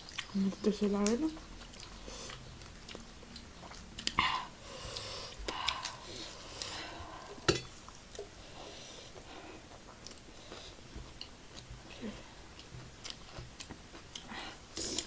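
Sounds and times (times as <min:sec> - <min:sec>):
food being chewed: 0:00.0 - 0:08.4, 0:09.1 - 0:15.0.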